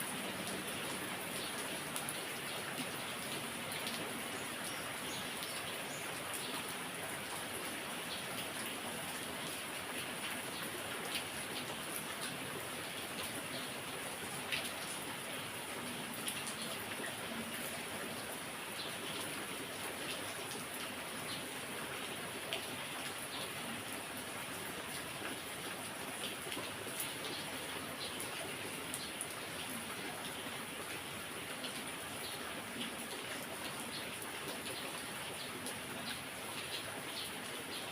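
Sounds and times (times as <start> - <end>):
heavy rain: 0.0 - 37.9
raindrops ticking on a surface: 0.0 - 37.9.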